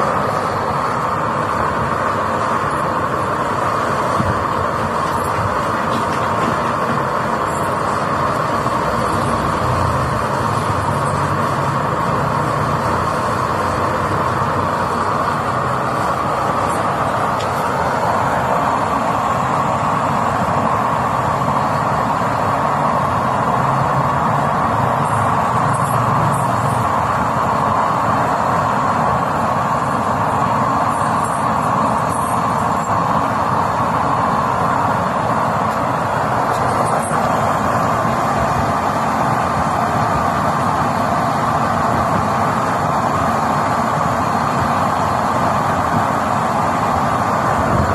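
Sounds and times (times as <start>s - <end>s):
stove blower rushing air and fire: 0.0s - 47.9s.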